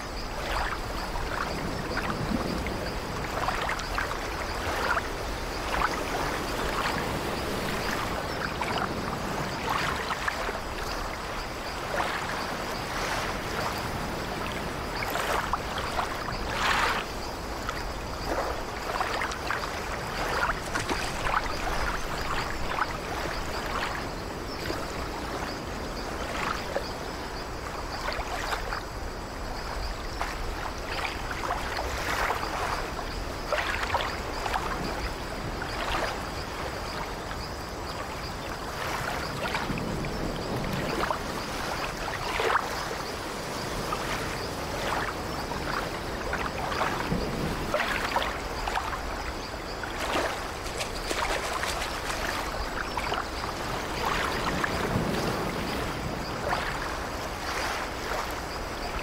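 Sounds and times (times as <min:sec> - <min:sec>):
steady rush of water: 0:00.0 - 0:59.0
waves breaking: 0:00.0 - 0:59.0.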